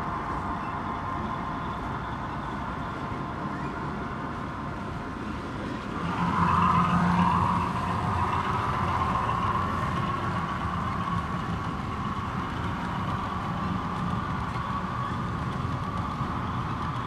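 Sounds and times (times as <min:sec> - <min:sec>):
low steady drone: 0:00.0 - 0:17.0
model trains humming and rumbling: 0:00.0 - 0:17.0.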